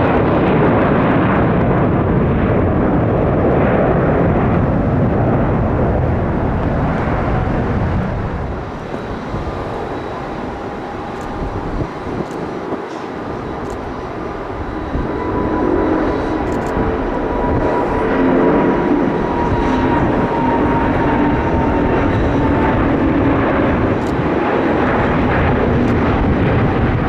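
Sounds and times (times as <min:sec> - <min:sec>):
engine whine: 0:00.0 - 0:27.0
jet airliner engines roaring: 0:00.0 - 0:27.0.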